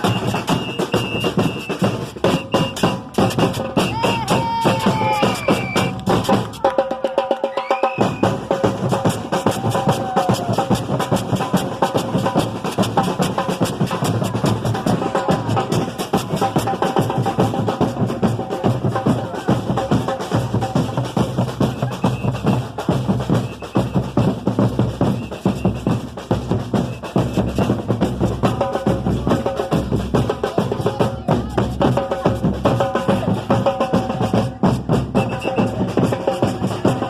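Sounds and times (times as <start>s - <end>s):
samba percussion band: 0.0s - 37.0s.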